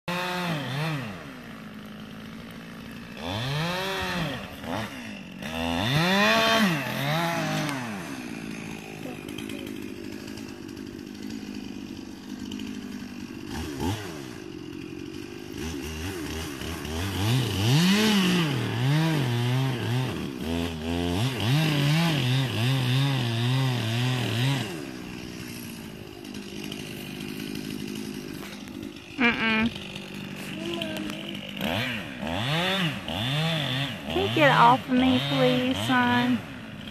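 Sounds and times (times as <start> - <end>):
chainsaw revving and sawing wood: 0.0 - 36.9.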